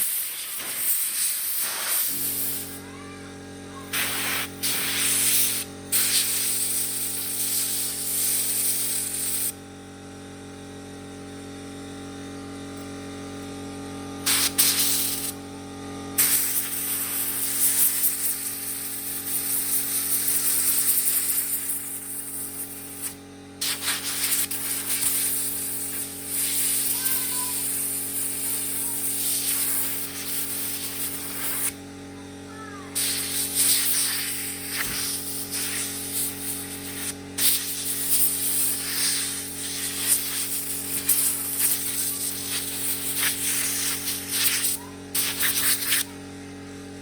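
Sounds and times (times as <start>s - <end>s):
air blow gun hissing: 0.0s - 3.2s, 3.8s - 9.6s, 14.2s - 15.4s, 16.2s - 31.8s, 32.6s - 46.2s
air compressor humming: 0.0s - 47.0s.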